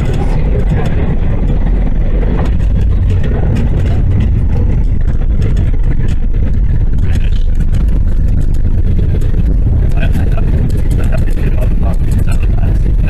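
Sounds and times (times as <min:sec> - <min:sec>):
jet engines and wheels rumbling: 0:00.0 - 0:13.0.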